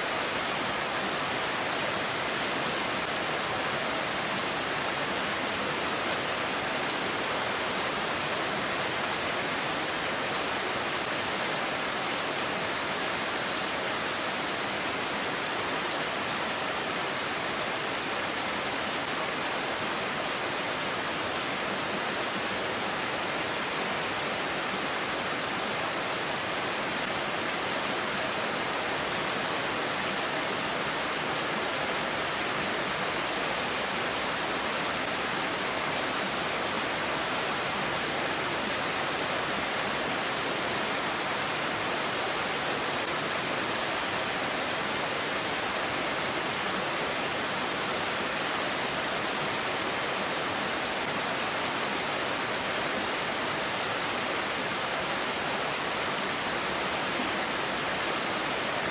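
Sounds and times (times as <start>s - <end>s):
rain falling steadily: 0.0s - 58.9s.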